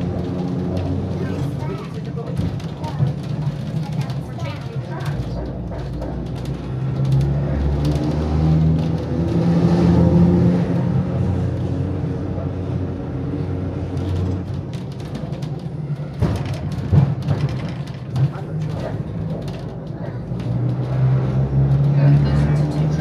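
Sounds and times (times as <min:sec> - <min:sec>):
electric tram motor hum: 0:00.0 - 0:23.0.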